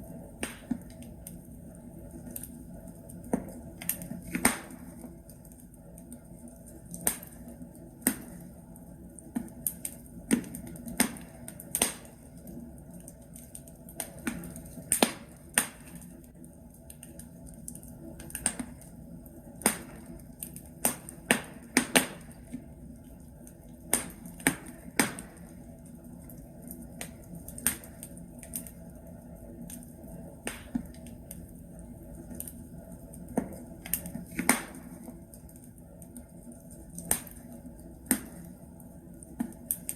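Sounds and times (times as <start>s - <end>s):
burning logs crackling: 0.0s - 39.9s.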